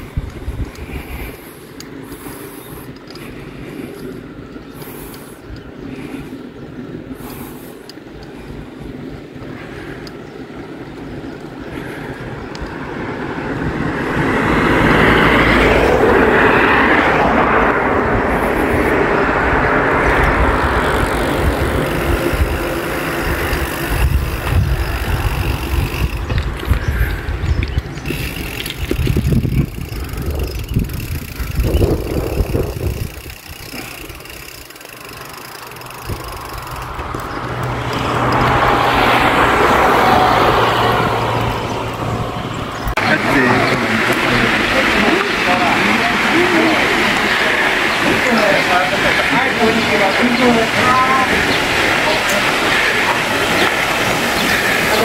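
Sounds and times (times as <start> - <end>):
wind rushing over microphone: 0.0 - 34.7, 35.6 - 55.0
vehicle passing: 7.2 - 55.0.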